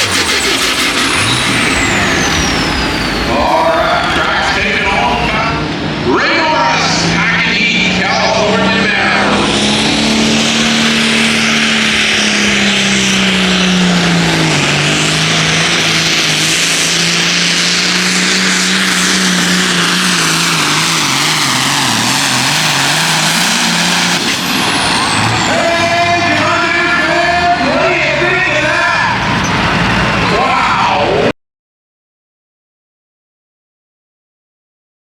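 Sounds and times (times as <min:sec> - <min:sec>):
high whine sliding down: 0:00.0 - 0:31.3
tractor diesel engine at full throttle: 0:00.0 - 0:31.3.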